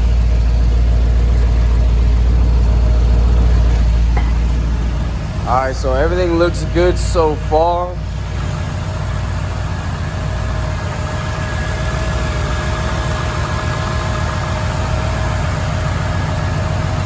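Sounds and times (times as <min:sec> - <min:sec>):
car engine idling: 0:00.0 - 0:17.0
engine whine: 0:00.0 - 0:17.0.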